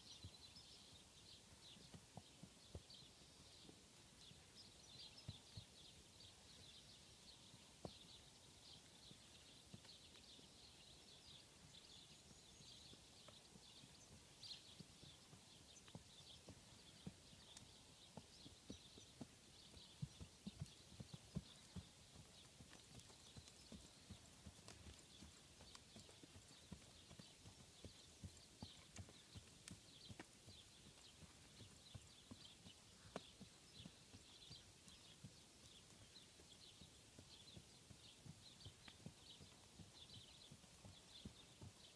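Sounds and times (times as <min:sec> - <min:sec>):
dull hoofbeats on grass: 0:00.0 - 0:41.9.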